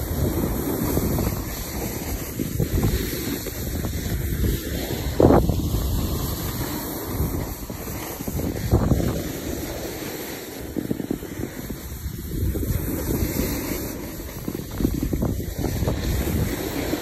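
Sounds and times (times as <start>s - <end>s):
skis scraping over snow: 0.0s - 17.0s
wind rushing over microphone: 0.0s - 17.0s.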